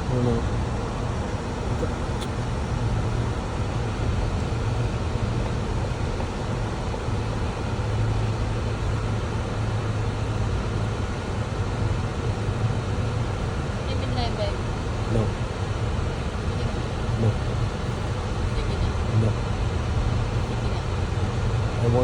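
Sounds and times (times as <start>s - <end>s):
car interior drone: 0.0s - 22.0s.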